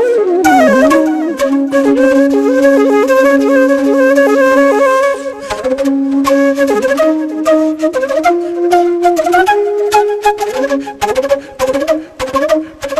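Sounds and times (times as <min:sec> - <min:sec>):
flute melody: 0:00.0 - 0:12.9.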